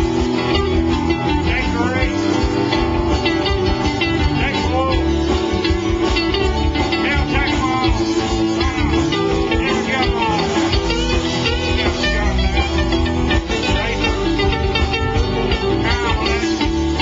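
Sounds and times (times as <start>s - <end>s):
drum kit: 0.0s - 17.0s
electric and acoustic guitars: 0.0s - 17.0s
electric bass: 0.0s - 17.0s.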